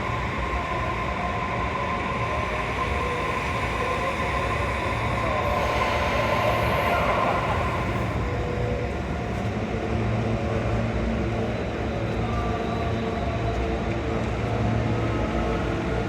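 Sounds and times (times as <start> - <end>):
railcar engine humming and whining: 0.0 - 16.0.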